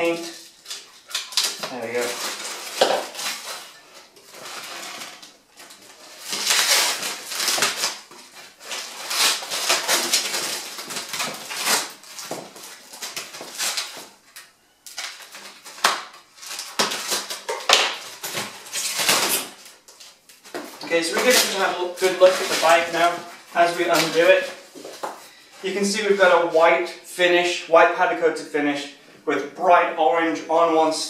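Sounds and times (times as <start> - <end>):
plastic packaging crinkling: 0.0 - 26.2.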